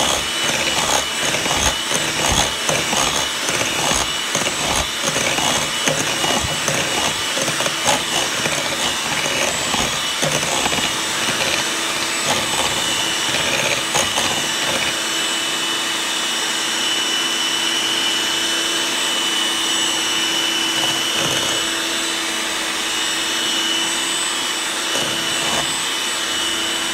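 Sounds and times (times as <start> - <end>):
electric hand mixer running: 0.0 - 26.9.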